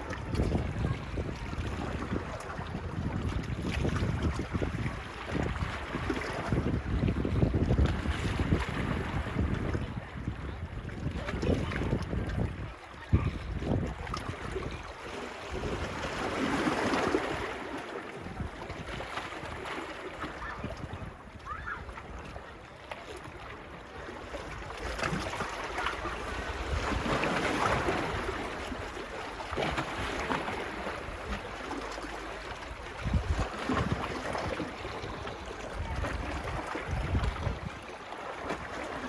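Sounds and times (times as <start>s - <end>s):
wind rumbling on microphone: 0.0s - 17.6s, 18.2s - 19.7s, 20.3s - 22.6s, 23.4s - 31.6s, 32.4s - 38.8s
small waves washing on beach: 0.0s - 39.0s.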